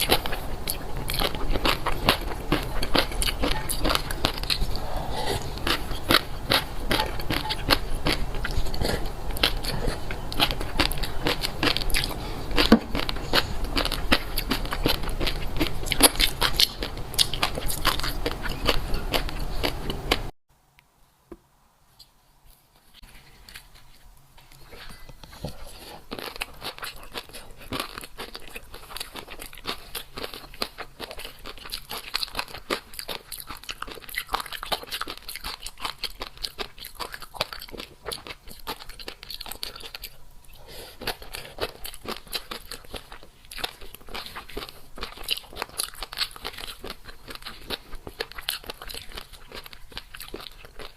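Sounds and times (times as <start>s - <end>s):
chewing and crunching crisp food: 0.0s - 20.4s, 22.0s - 50.9s.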